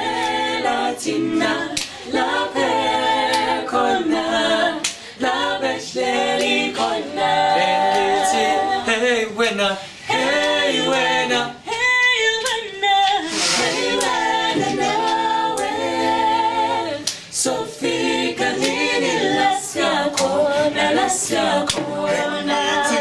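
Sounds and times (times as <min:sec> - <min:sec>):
choir singing a cappella: 0:00.0 - 0:23.0.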